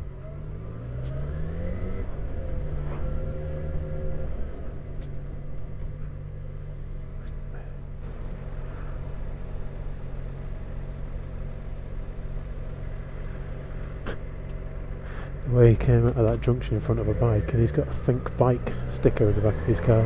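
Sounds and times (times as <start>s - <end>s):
motorcycle engine at low revs: 0.0s - 20.0s
road and traffic noise: 0.0s - 20.0s.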